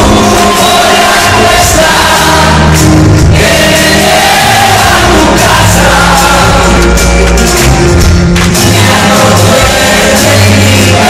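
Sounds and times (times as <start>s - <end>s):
live band music with singing: 0.0s - 11.0s.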